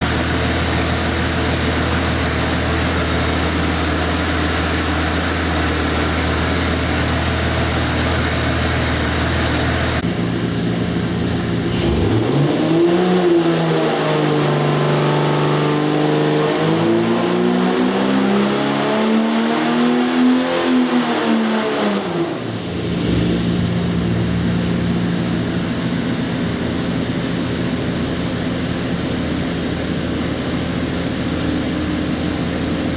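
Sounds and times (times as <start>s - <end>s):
car engine revving on a dyno: 0.0s - 10.1s, 11.4s - 32.9s.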